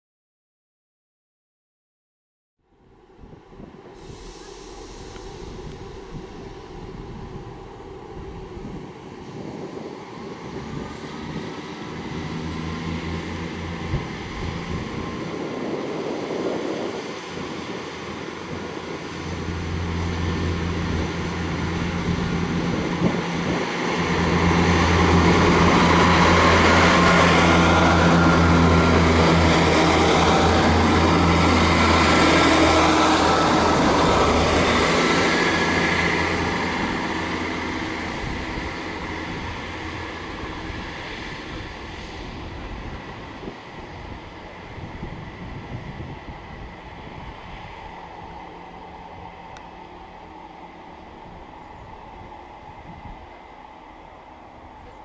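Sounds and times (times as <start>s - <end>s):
diesel train engine drone: 2.7s - 55.0s
train wheel and rail noise: 2.8s - 55.0s.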